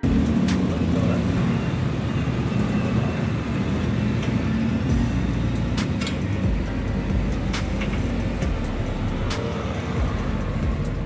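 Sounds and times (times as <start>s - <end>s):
engine running with low rumble: 0.0s - 11.0s.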